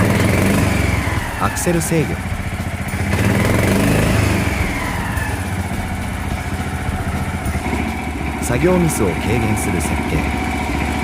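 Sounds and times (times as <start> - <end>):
crane engine revving: 0.0 - 11.0.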